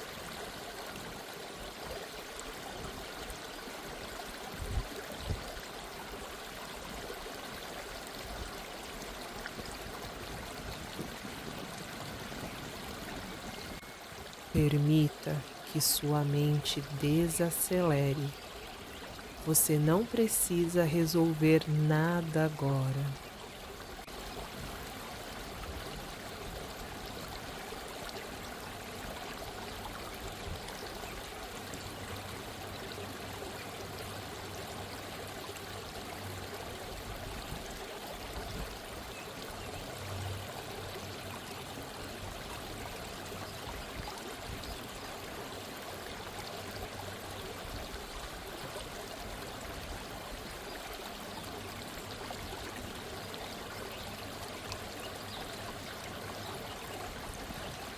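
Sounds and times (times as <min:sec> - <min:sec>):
water trickling and babbling: 0:00.0 - 0:57.9.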